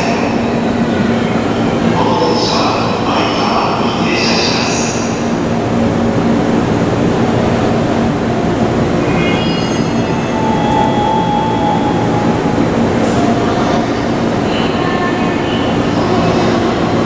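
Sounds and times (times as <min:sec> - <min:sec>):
electric train rumble and hum: 0:00.0 - 0:17.0.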